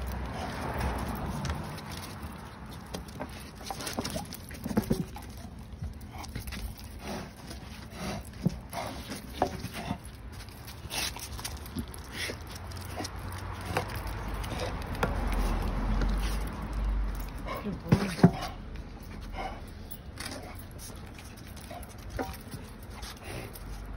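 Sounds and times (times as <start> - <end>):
dog claws clicking on concrete: 0.0 - 23.9.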